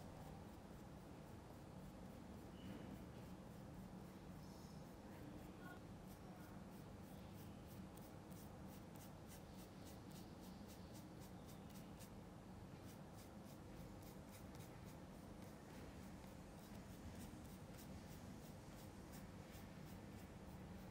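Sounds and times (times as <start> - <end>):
paintbrush strokes: 0.0 - 20.9.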